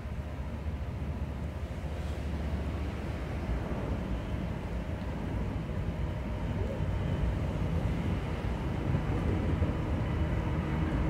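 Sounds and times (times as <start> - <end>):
diesel locomotive engine rumble: 0.0 - 11.0.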